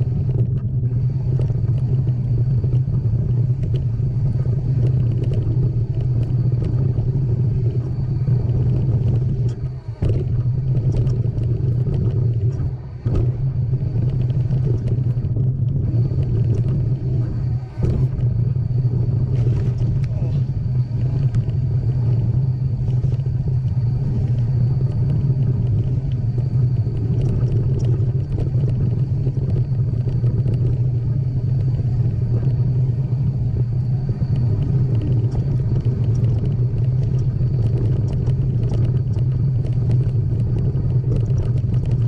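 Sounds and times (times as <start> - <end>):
bike clicks and rattles: 0.0 - 42.0
wind rumble on microphone: 0.0 - 42.0.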